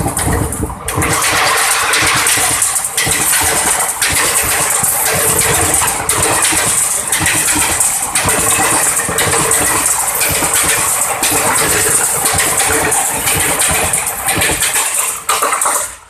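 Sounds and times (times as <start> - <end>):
rhythmic clatter of coaches: 0.0 - 16.0
train wheels rumbling on rail: 0.0 - 16.0.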